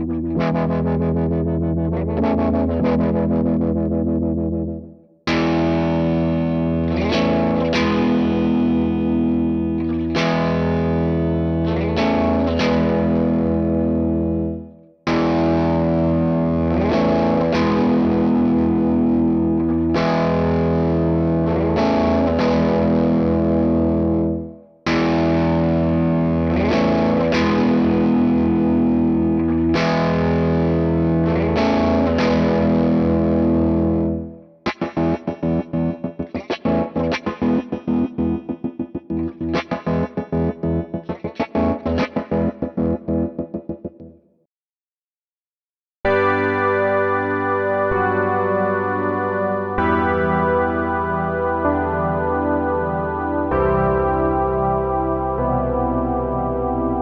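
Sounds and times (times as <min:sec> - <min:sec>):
distorted electric guitar chords: 0:00.0 - 0:44.2, 0:46.1 - 0:57.0.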